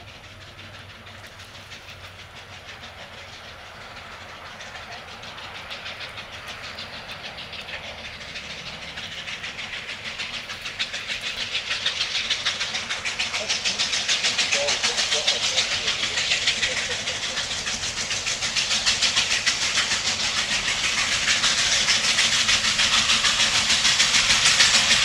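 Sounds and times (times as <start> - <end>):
steam locomotive chuffing: 0.0 - 25.0.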